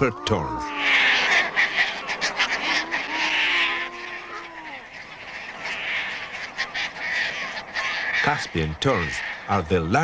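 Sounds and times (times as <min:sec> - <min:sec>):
terns giving harsh rasping calls: 0:00.0 - 0:09.9
seabirds gliding calls: 0:00.0 - 0:10.0.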